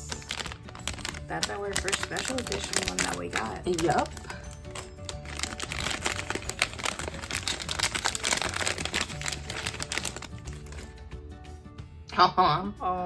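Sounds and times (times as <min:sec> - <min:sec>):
packaging crinkling: 0:00.0 - 0:10.9
soft background music: 0:00.0 - 0:13.0.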